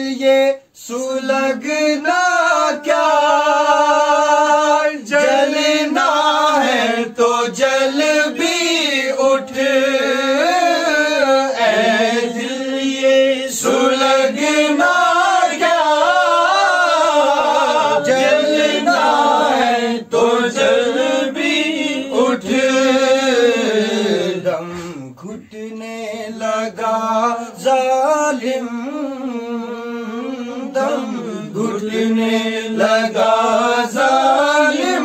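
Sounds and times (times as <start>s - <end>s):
man singing devotional verse: 0.0s - 35.0s.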